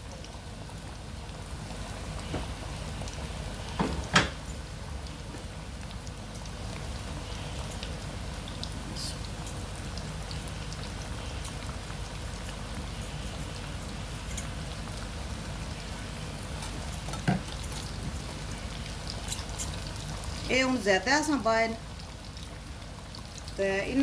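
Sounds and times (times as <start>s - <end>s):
chicken frying in hot oil: 0.0s - 24.0s.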